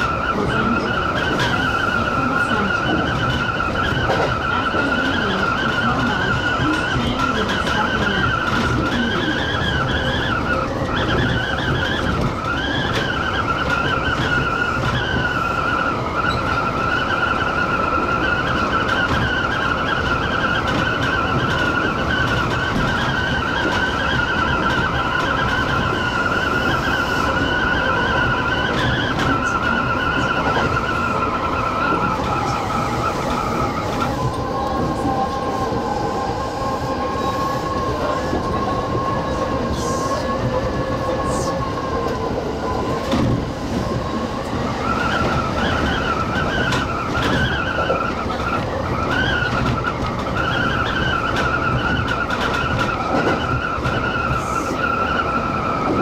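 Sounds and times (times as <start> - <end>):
train running rumble: 0.0 - 56.0
train wheels squealing on rail: 0.0 - 56.0.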